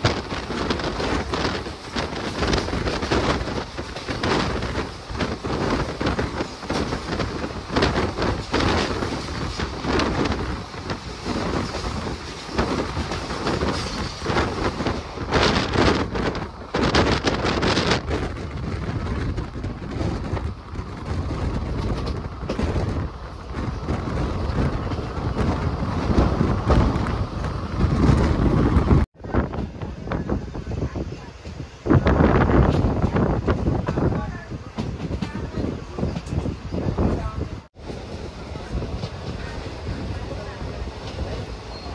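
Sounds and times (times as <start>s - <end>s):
freight train wheels clattering: 0.0s - 30.2s, 31.3s - 37.4s
rushing wind: 0.0s - 41.9s.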